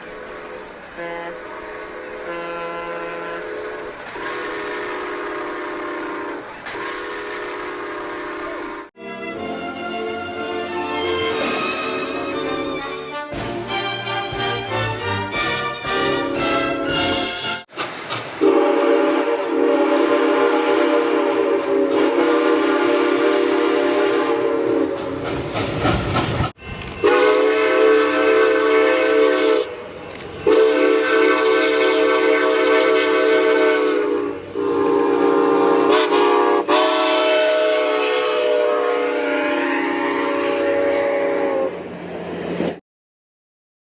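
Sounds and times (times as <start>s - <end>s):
train whistle blasts: 0.1s - 17.6s, 18.4s - 25.2s, 26.9s - 29.8s, 30.4s - 41.9s.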